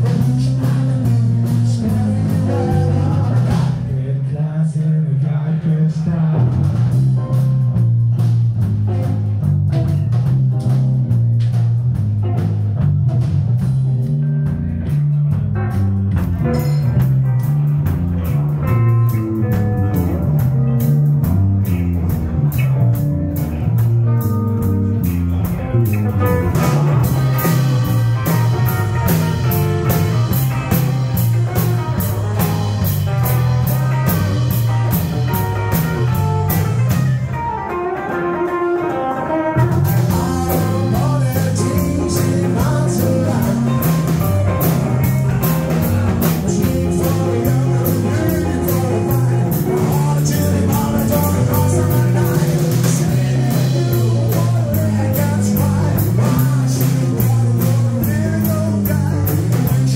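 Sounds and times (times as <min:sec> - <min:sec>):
electric guitar: 0:00.0 - 0:04.6, 0:05.3 - 0:59.9
electric bass line: 0:00.0 - 0:59.9.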